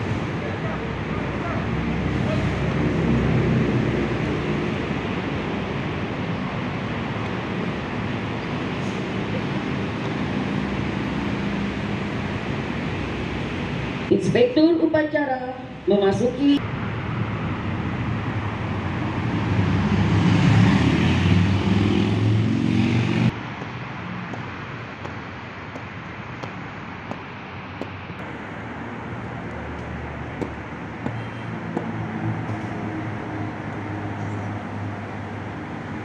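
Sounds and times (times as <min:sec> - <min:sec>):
motor vehicle running close: 0:00.0 - 0:14.1, 0:16.6 - 0:36.0
traffic hum: 0:00.0 - 0:36.0.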